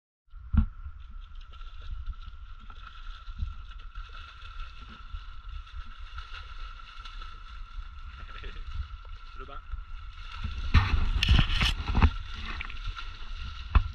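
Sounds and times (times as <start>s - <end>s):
wind rumble on microphone: 0.3s - 13.9s.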